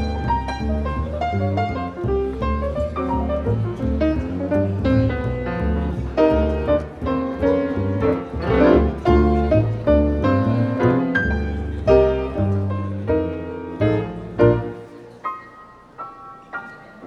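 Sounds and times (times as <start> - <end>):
double bass line: 0.0 - 14.9
jazz piano chords: 0.0 - 17.0.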